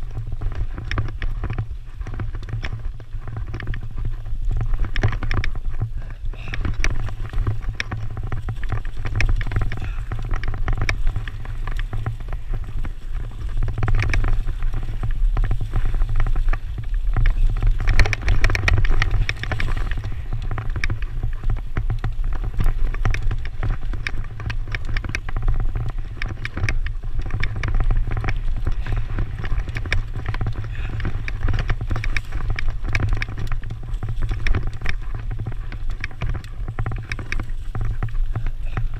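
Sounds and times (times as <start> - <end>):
bike rattling and clicking: 0.0 - 38.9
bike tyres rolling over leaves: 0.0 - 38.9
wind buffeting microphone: 0.0 - 38.9.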